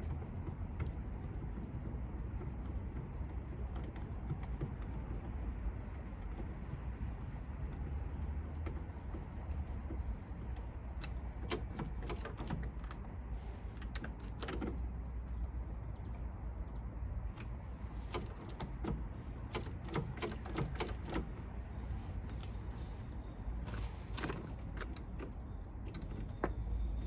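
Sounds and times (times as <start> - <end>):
light clicks and taps: 0.0 - 22.9.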